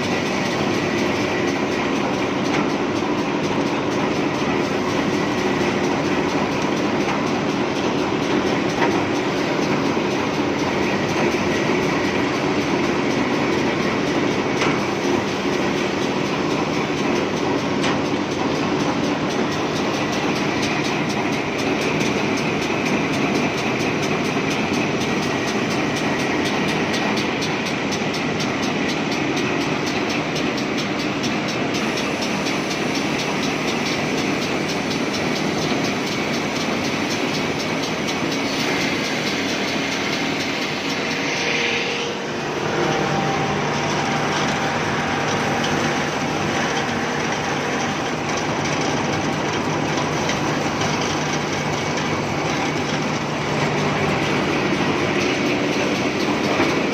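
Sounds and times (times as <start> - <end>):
wood moulding machine running: 0.0 - 56.9.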